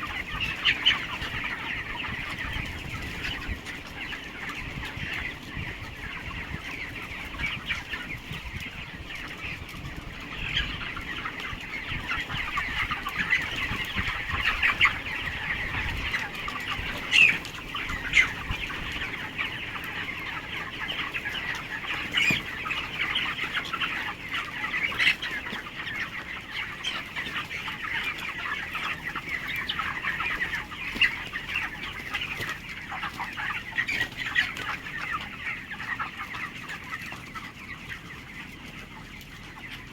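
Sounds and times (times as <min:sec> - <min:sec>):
chickens peeping and clucking: 0:00.0 - 0:39.9.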